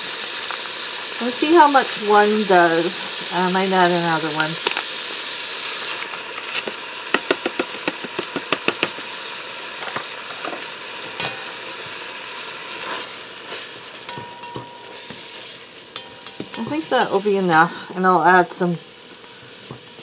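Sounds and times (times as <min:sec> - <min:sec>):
meat sizzling in a pot: 0:00.0 - 0:20.0.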